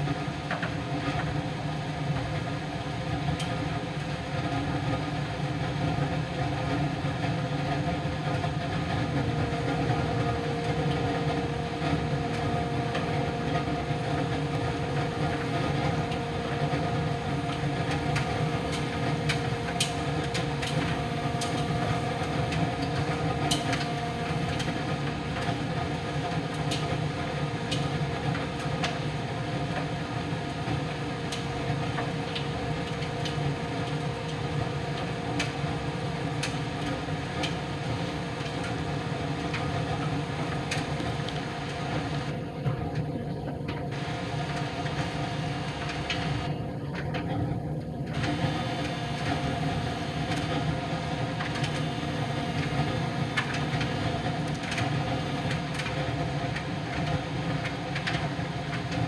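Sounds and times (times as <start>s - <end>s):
tumble dryer running: 0.0s - 59.0s.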